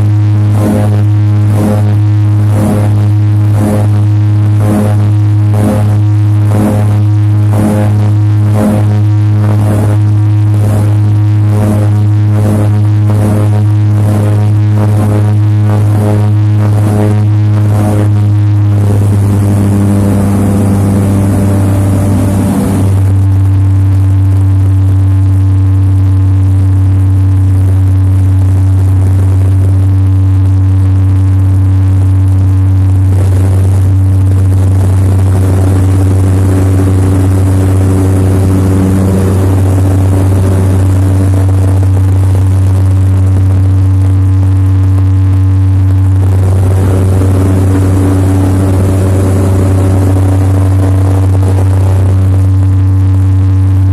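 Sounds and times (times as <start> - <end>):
propeller engine drone: 0.0 - 53.9.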